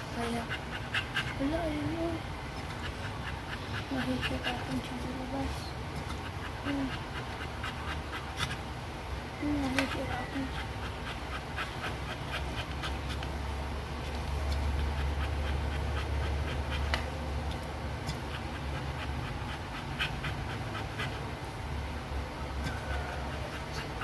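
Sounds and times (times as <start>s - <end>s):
dog panting rapidly: 0.0s - 8.8s, 9.4s - 24.0s
steady low hum: 0.0s - 24.0s.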